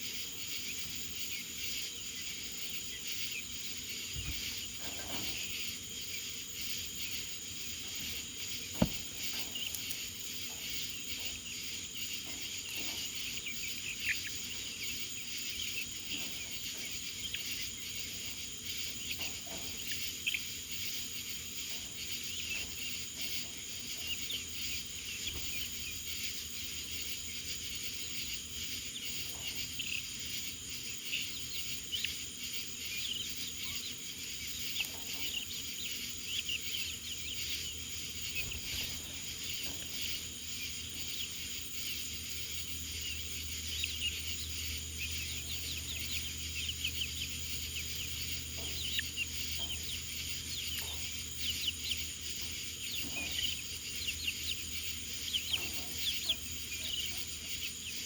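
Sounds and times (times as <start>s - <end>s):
birds chirping: 0.0s - 58.0s
faint low hum: 0.0s - 58.0s.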